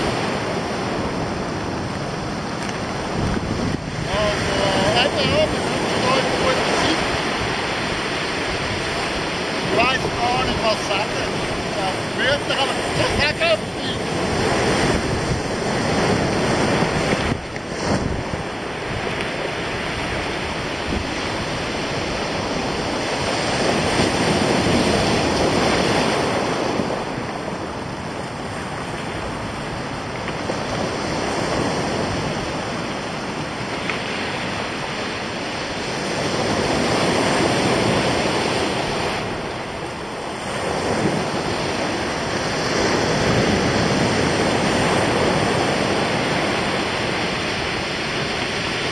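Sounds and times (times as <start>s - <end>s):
surf breaking over rocks: 0.0s - 48.9s
wind on microphone: 0.0s - 48.9s.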